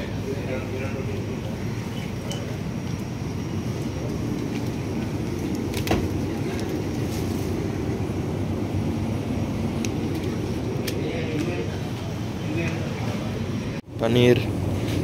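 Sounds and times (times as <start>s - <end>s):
grocery store background rumble: 0.0s - 15.0s.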